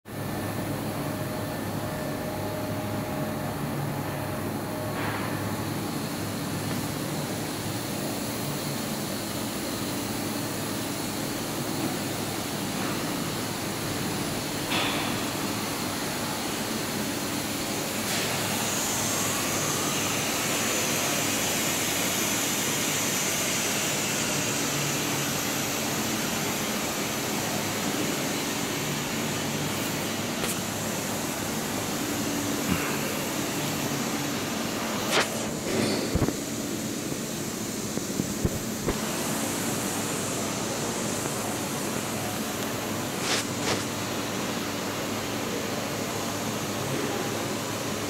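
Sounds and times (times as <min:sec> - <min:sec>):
industrial fans humming: 0:00.1 - 0:48.0.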